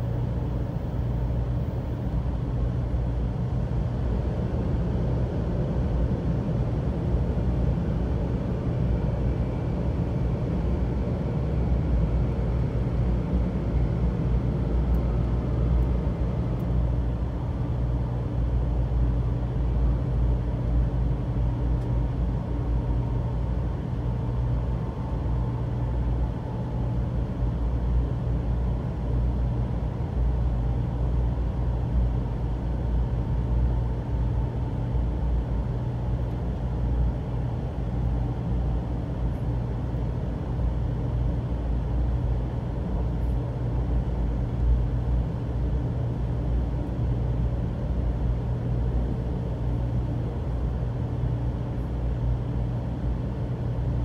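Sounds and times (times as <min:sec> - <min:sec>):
train cabin low rumble: 0:00.0 - 0:54.0.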